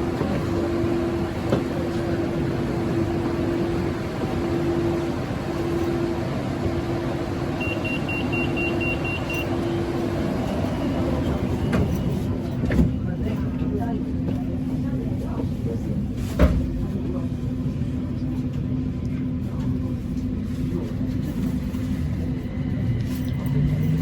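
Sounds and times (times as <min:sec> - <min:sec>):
electric train rumbling: 0:00.0 - 0:16.2, 0:16.8 - 0:24.0.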